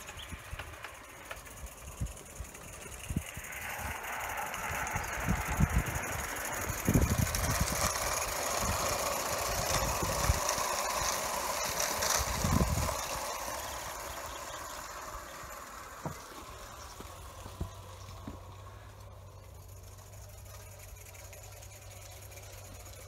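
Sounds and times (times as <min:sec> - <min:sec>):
mechanical rattling: 0:00.0 - 0:23.0
model steam locomotive running: 0:00.0 - 0:23.0.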